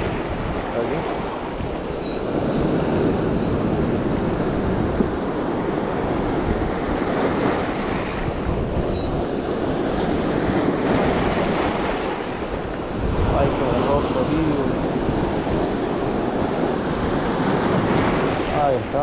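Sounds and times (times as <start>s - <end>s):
surf washing over boulders: 0.0s - 19.0s.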